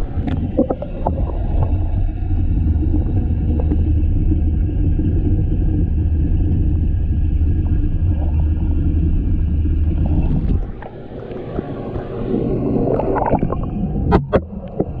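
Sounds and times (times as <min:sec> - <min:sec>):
underwater rumble of moving water: 0:00.0 - 0:15.0
water gurgling and sloshing: 0:00.0 - 0:15.0.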